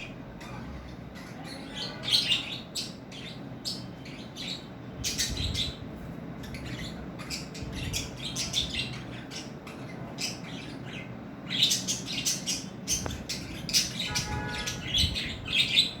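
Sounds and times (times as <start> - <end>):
budgerigars chirping: 0.8 - 5.8, 6.4 - 16.0.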